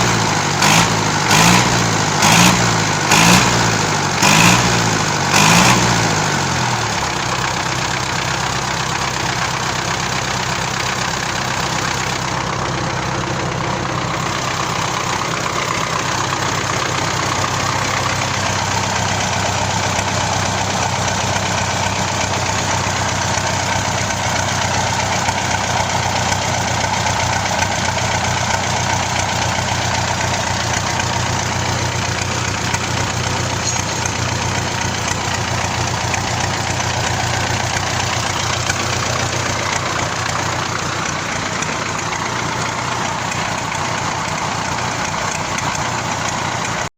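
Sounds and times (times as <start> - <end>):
tractor diesel engine idling: 0.0 - 46.9.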